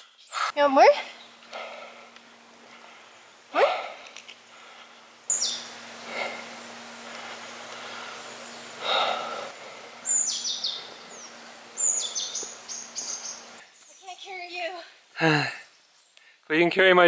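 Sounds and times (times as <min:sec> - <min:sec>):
lower fuller bird calls: 0:00.0 - 0:14.3
birds chirping: 0:00.0 - 0:16.5.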